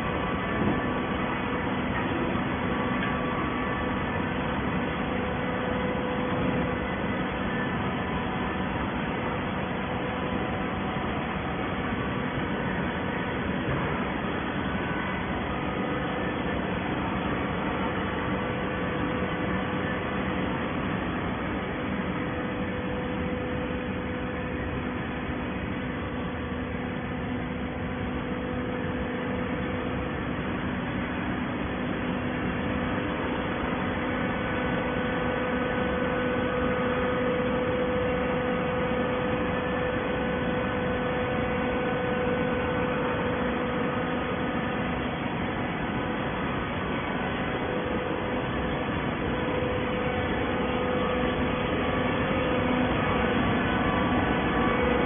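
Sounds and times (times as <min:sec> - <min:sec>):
hydraulic baler humming: 0:00.0 - 0:55.0.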